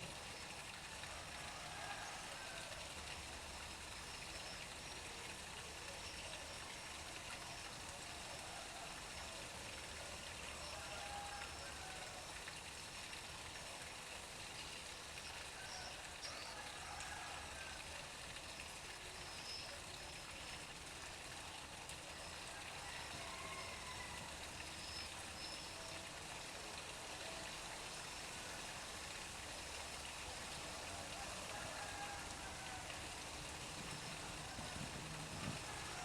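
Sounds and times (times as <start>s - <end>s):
water splashing into a pond: 0.0s - 36.0s.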